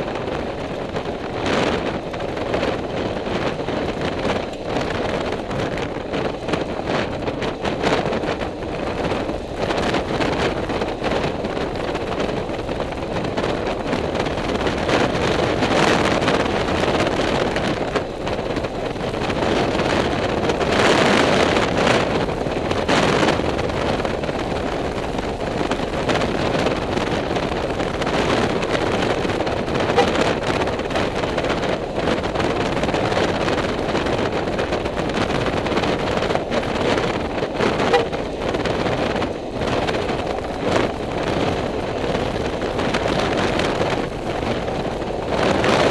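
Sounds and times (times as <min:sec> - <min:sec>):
vehicle running and road noise: 0:00.0 - 0:45.9
wind buffeting microphone: 0:00.0 - 0:45.9.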